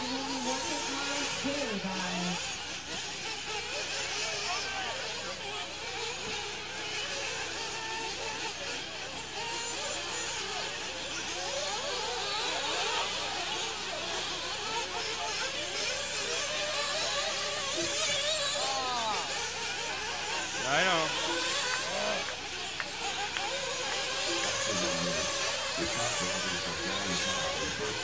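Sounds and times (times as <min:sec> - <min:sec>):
rc car engines whining: 0:00.0 - 0:28.0.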